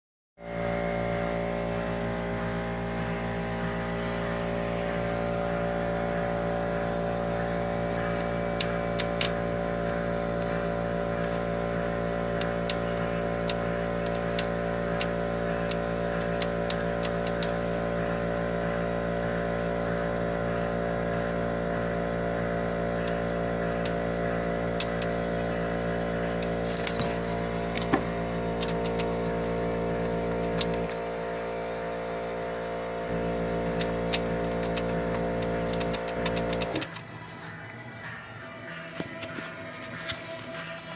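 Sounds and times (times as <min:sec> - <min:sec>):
car engine idling: 0:00.8 - 0:39.0.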